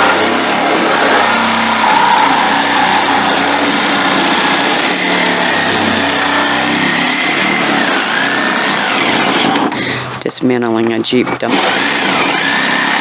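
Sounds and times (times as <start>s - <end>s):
power tool cutting metal: 0.0s - 10.3s, 11.1s - 13.0s.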